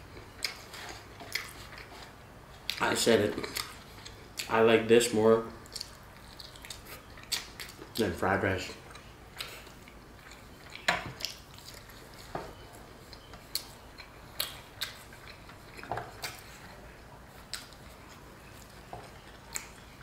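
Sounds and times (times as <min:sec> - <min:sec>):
chewing: 0:00.0 - 0:04.6, 0:05.6 - 0:20.0.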